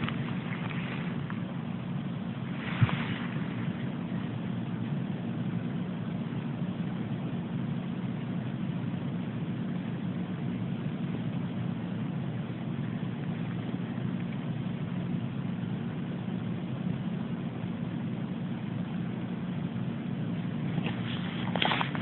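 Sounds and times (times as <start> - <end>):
steady low drone: 0.0 - 22.0.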